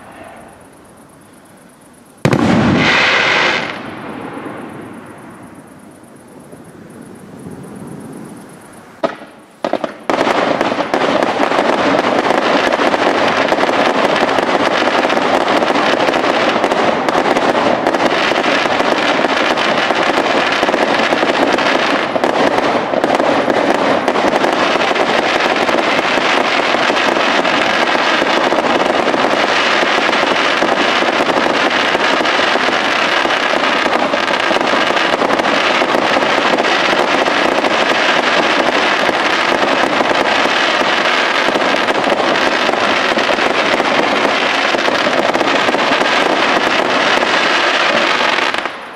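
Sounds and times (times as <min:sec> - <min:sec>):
fireworks bangs and crackle: 0:00.0 - 0:48.9.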